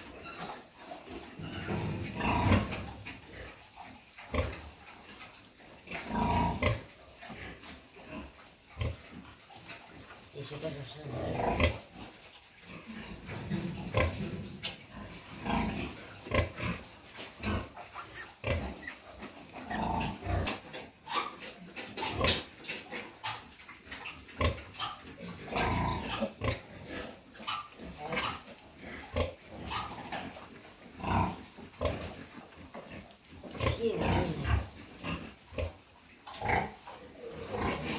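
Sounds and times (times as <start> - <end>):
pigs grunting: 0.0 - 37.9.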